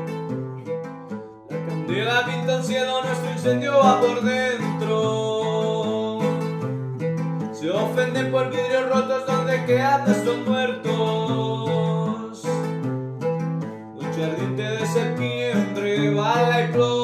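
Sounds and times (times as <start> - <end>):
strummed string instrument: 0.0 - 17.0
man singing: 1.6 - 17.0.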